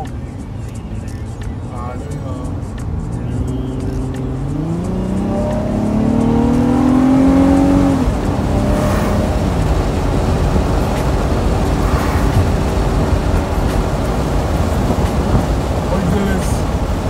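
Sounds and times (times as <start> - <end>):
car engine accelerating: 0.0 - 17.0
road noise rumble: 0.0 - 17.0.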